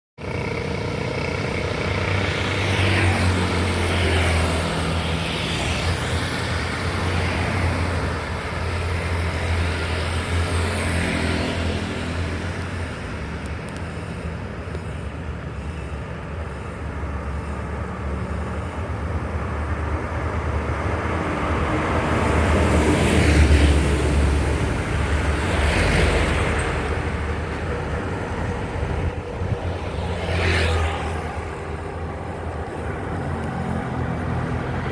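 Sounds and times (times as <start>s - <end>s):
heavy vehicle engine drone: 0.2s - 34.9s
vehicles swishing past: 0.2s - 34.9s.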